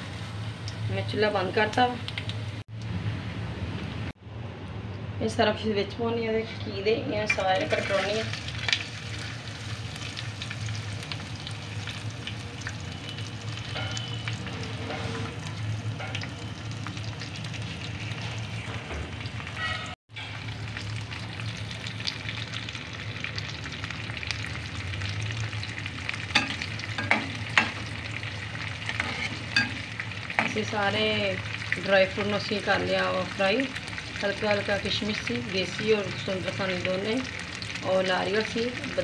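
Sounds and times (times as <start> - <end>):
food sizzling in ghee: 0.0 - 2.8, 5.8 - 39.0.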